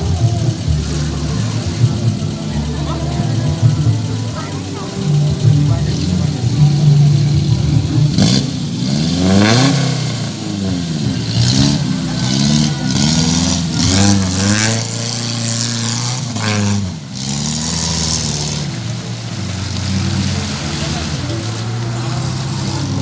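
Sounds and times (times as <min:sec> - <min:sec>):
engine revving hard: 0:00.0 - 0:23.0.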